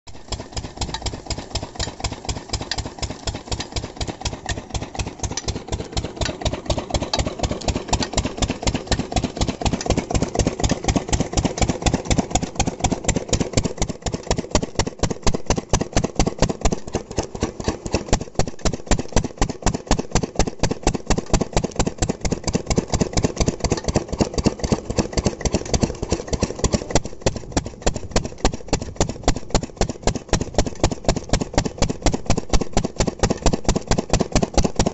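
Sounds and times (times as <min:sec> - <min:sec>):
diesel engine running steadily: 0:00.1 - 0:34.9.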